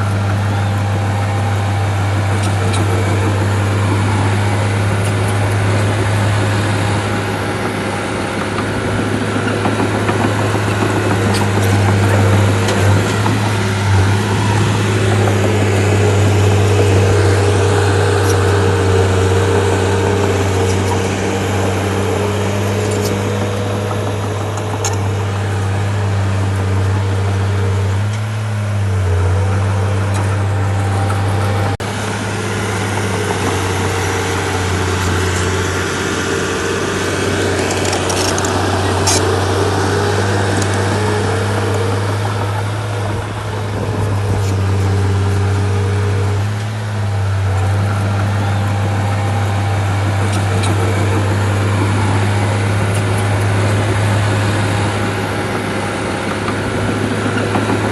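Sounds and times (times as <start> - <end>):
bulldozer diesel engine humming: 0.0 - 57.9.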